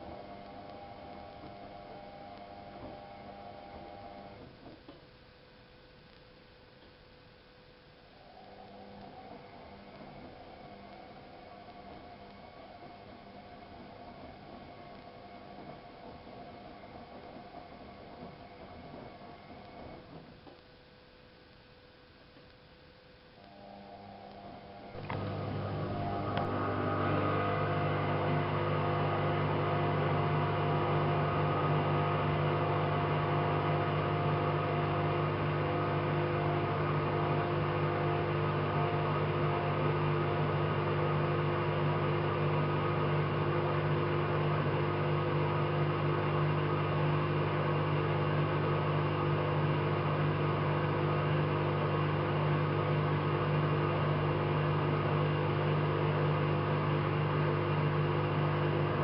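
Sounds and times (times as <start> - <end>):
washing machine running: 0.0 - 4.5, 8.1 - 20.5, 23.5 - 59.0.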